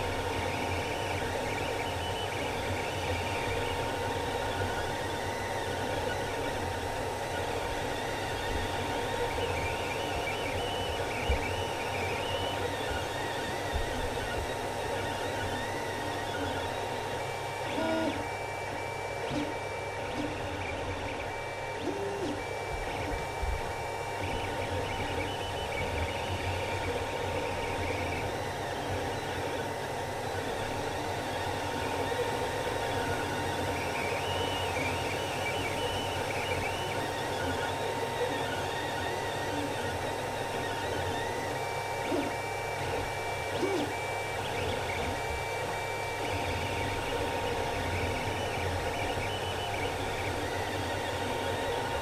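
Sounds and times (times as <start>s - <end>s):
steady hum: 0.0s - 52.0s
stepper motors whining: 0.0s - 52.0s.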